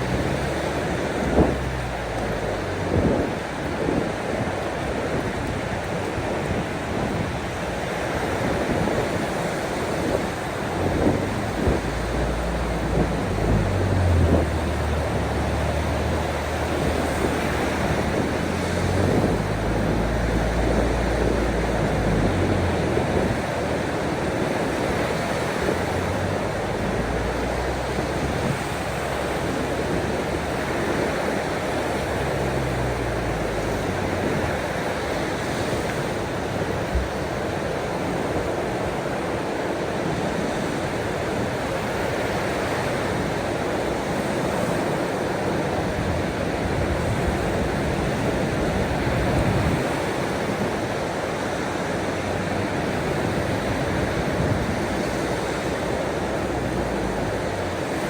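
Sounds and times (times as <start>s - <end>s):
ocean waves washing in: 0.0s - 58.0s
wind: 0.0s - 58.0s.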